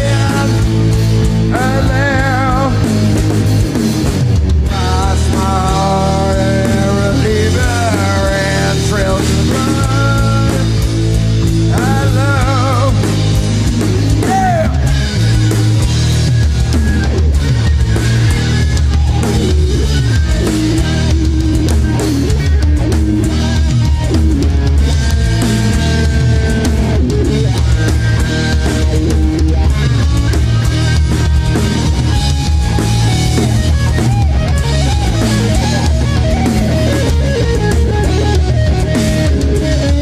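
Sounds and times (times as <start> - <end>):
electric guitar bending notes: 0.0 - 40.0
live hard rock band playing: 0.0 - 40.0.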